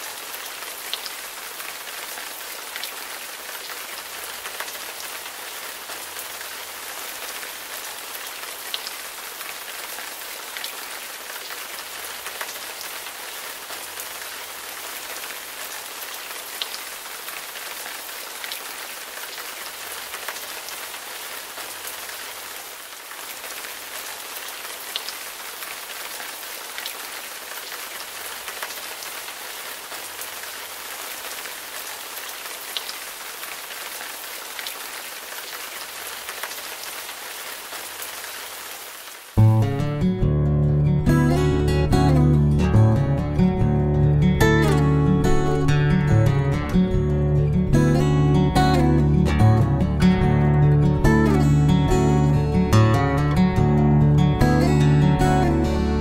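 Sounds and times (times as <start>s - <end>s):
rain falling on puddles: 0.0s - 39.6s, 44.0s - 56.0s.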